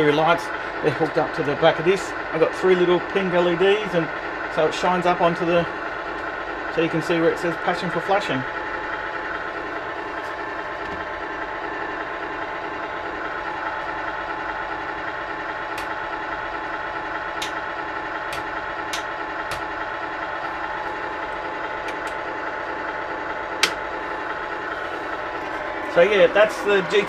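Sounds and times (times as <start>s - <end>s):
simulated truck engine idle: 0.0s - 27.0s.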